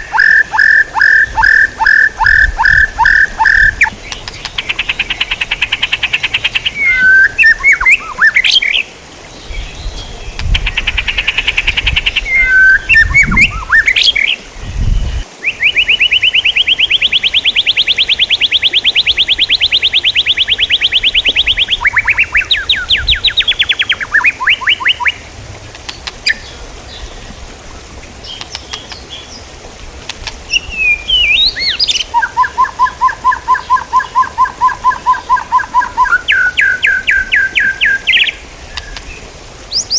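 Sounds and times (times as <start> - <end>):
songbird chattering and trilling: 0.0 - 27.1, 28.3 - 29.4, 30.1 - 39.9.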